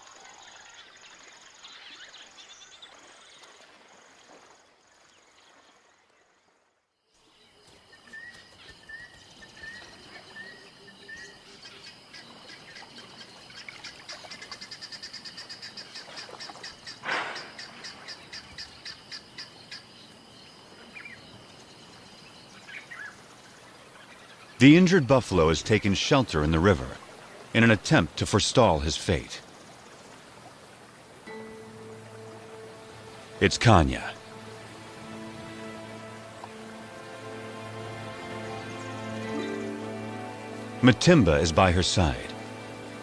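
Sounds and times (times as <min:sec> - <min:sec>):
birds calling: 0:07.2 - 0:43.0.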